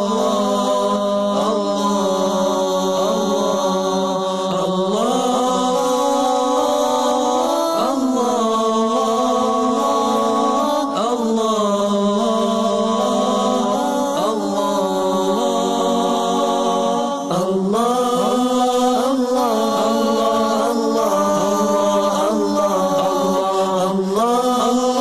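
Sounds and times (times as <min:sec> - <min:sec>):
a cappella vocal chant: 0:00.0 - 0:25.0.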